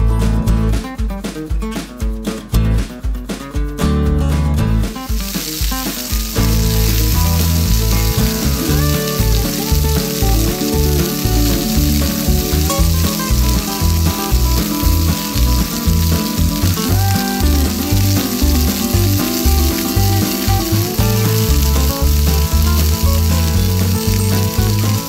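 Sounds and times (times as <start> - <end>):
background music: 4.1 - 25.0
hot oil sizzling: 4.9 - 25.0.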